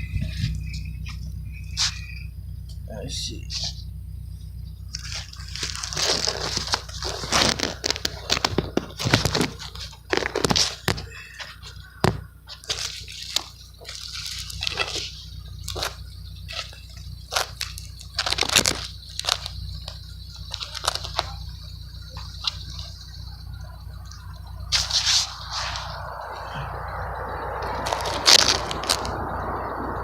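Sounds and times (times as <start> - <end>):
car engine idling: 0.0 - 30.0
exhaust clicks and pops: 0.0 - 30.0.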